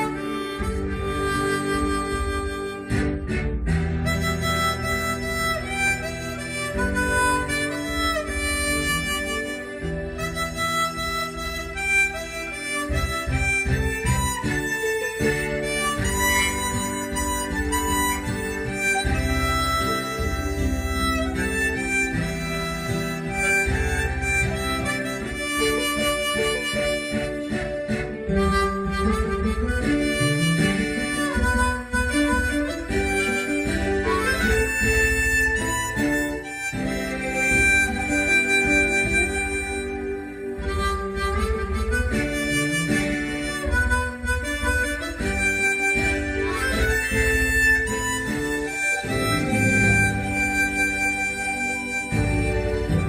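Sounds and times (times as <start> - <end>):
slow instrumental music: 0.0 - 53.0.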